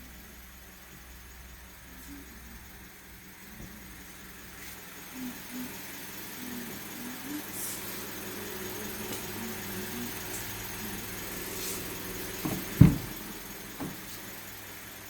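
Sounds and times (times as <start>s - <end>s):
faint wavering voice-like sounds: 0.0s - 12.3s
car engine idling: 0.0s - 15.0s.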